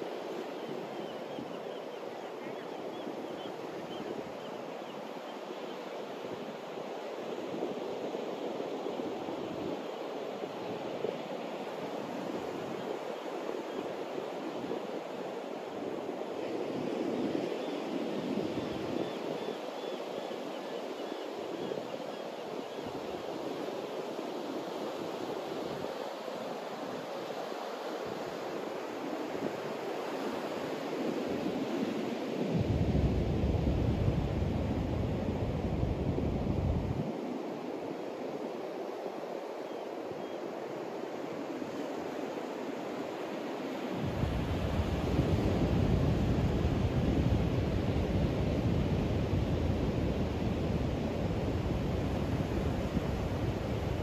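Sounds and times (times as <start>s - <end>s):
ocean surf on beach: 0.0s - 54.0s.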